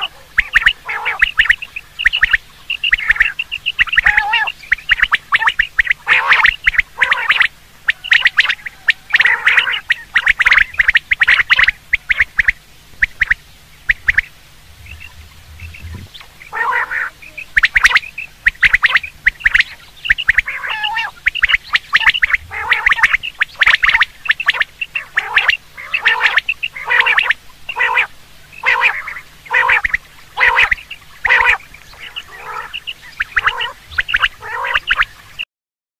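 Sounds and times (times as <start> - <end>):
quail calling: 0.0 - 35.4.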